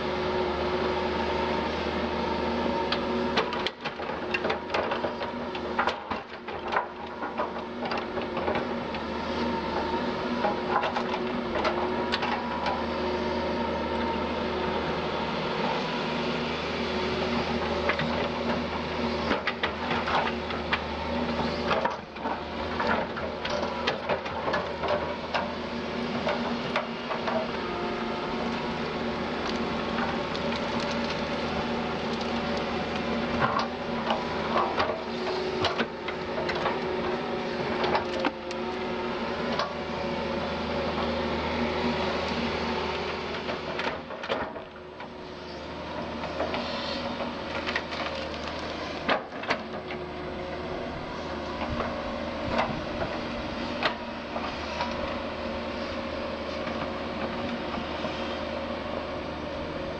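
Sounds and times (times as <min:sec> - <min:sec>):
excavator diesel engine and hydraulics: 0:00.0 - 0:59.9.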